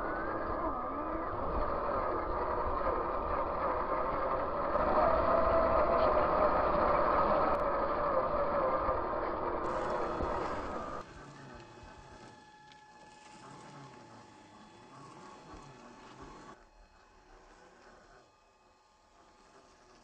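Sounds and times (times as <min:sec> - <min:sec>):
electric motor whining: 0:00.0 - 0:18.7.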